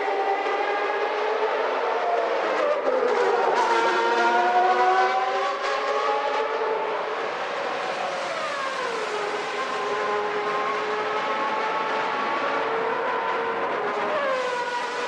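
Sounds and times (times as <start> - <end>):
racing car engines at high revs: 0.0 - 15.0.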